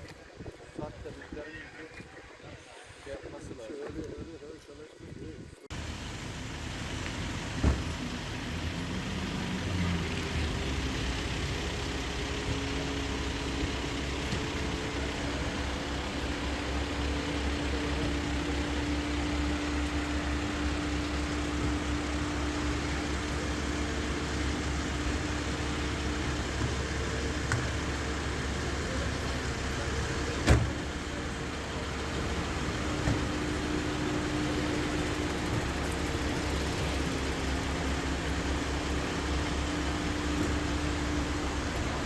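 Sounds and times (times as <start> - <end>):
engine idling: 5.7 - 42.0.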